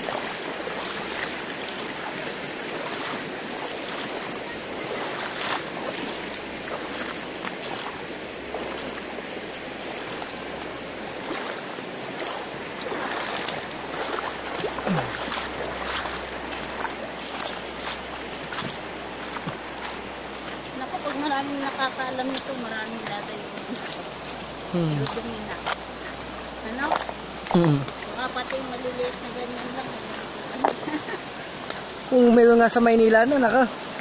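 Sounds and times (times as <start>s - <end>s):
footsteps wading through water: 0.0s - 34.0s
river running over rocks: 0.0s - 34.0s.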